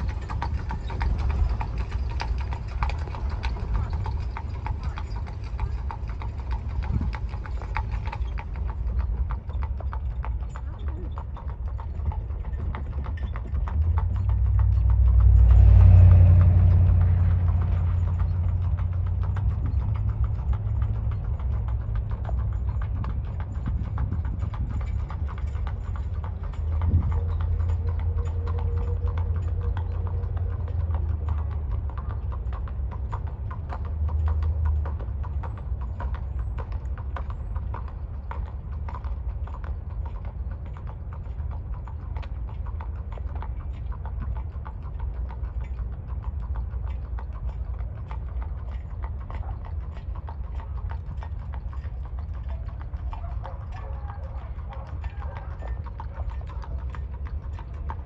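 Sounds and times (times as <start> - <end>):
horse hoof clicks: 0.0 - 58.0
low steady rumble: 0.0 - 58.0.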